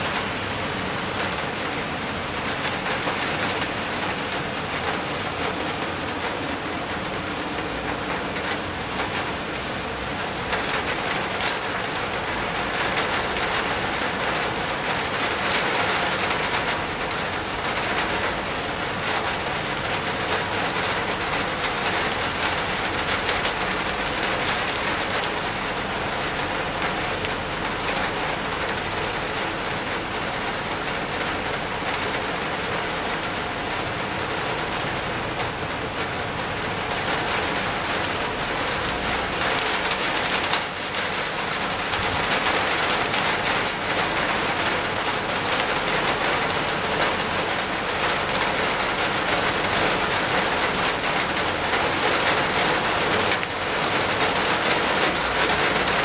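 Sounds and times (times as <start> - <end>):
heavy rain on rock and foliage: 0.0 - 56.0.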